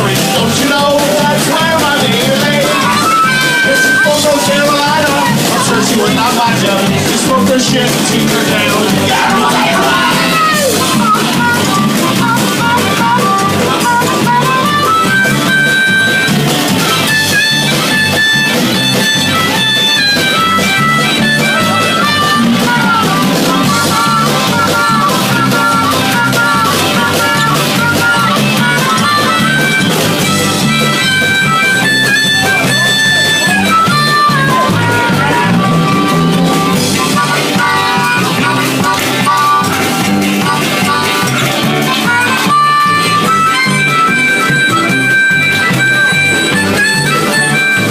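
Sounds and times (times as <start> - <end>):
drums: 0.0 - 47.9
guitar: 0.0 - 47.9
harmonica with bending notes: 0.0 - 47.9.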